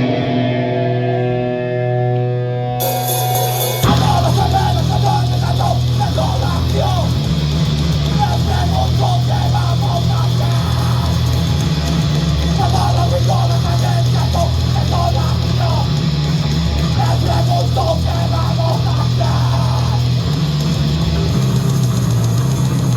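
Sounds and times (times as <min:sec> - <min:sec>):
fast choppy guitar: 0:00.0 - 0:22.9
heavy bass drone: 0:00.0 - 0:22.9
rock band playing live: 0:00.0 - 0:22.9.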